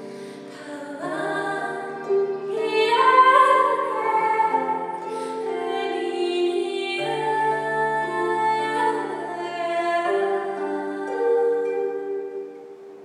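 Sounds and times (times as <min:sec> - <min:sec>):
woman singing: 0:00.0 - 0:12.6
harp: 0:00.0 - 0:13.0.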